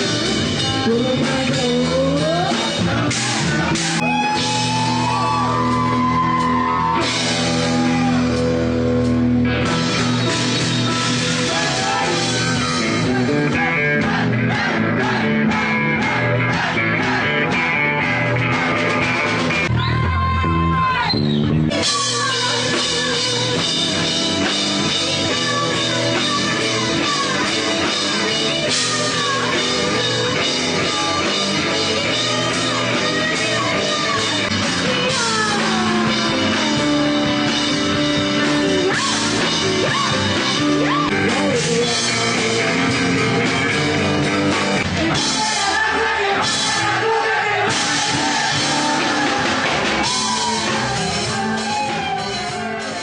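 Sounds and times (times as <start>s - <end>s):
person singing and yelling: 0.0s - 8.3s, 11.0s - 17.6s, 19.8s - 44.3s, 44.9s - 53.0s
distorted electric guitars: 0.0s - 53.0s
drum kit: 0.0s - 53.0s.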